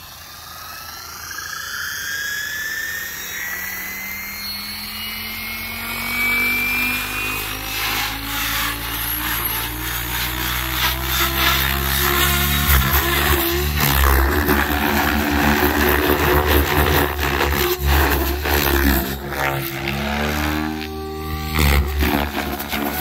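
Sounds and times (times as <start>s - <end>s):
choppy rotor noise: 0.0s - 23.0s
rc helicopter motor whine: 0.0s - 23.0s.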